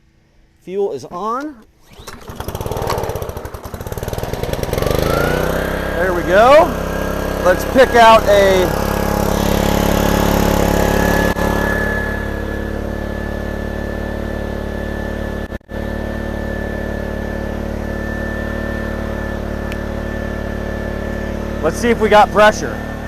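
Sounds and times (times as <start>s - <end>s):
pressure washer engine running: 1.8s - 23.0s.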